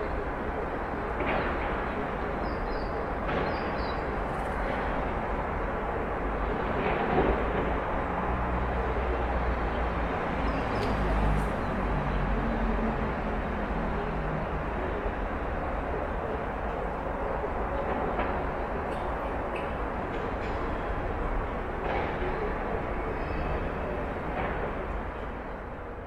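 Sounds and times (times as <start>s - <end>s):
distant traffic noise: 0.0s - 26.0s.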